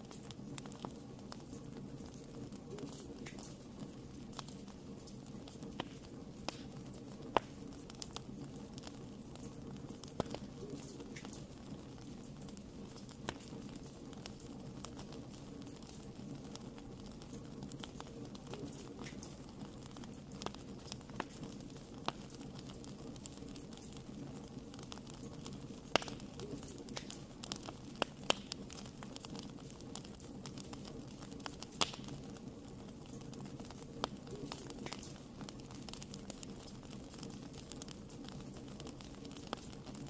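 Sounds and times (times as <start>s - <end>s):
fire crackling and popping: 0.0s - 40.0s
fire low rumble: 0.0s - 40.0s.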